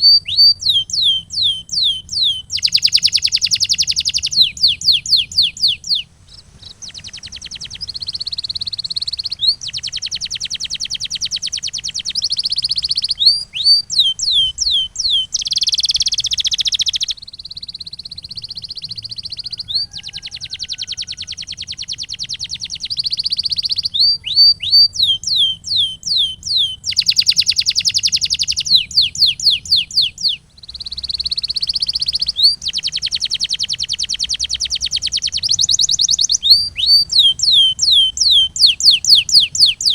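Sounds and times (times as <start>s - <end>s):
canary singing: 0.0s - 39.9s
low steady hum: 0.0s - 39.9s.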